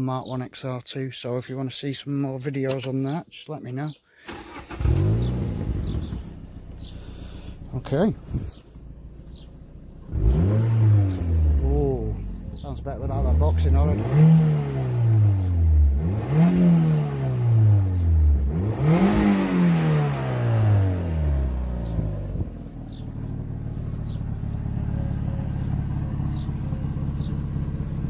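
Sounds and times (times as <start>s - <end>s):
car engine revving and idling: 4.4s - 28.0s.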